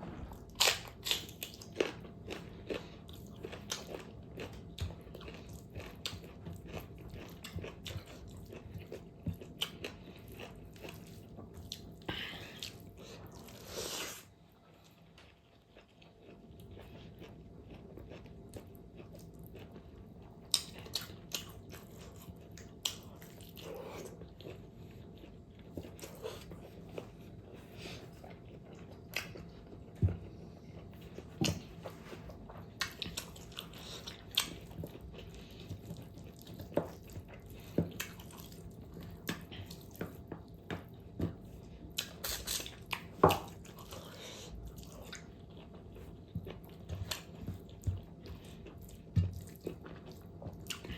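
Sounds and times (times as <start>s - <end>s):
faint steady hum: 0.0s - 50.9s
person chewing: 0.1s - 50.9s.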